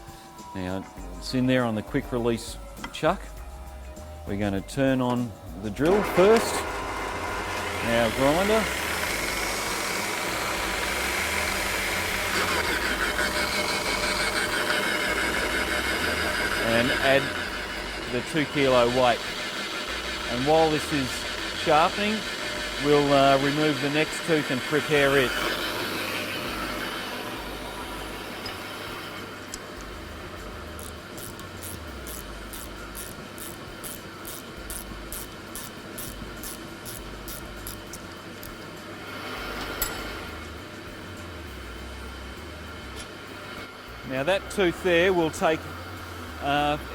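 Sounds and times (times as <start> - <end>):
drill press motor whining: 5.6 - 46.9
grinder whirring: 5.6 - 46.9.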